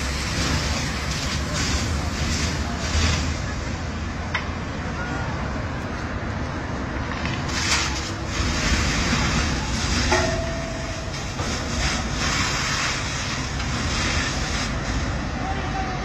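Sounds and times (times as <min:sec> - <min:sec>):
water jet spraying on pavement: 0:00.0 - 0:04.3, 0:06.8 - 0:16.0
truck engine rumble: 0:00.0 - 0:16.0.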